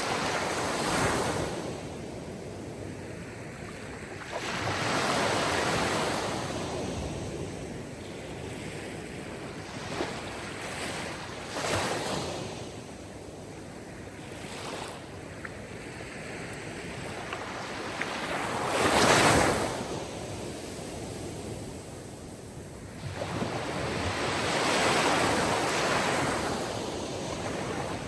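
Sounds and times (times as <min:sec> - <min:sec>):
waves breaking on shore: 0:00.0 - 0:13.1, 0:13.8 - 0:28.0.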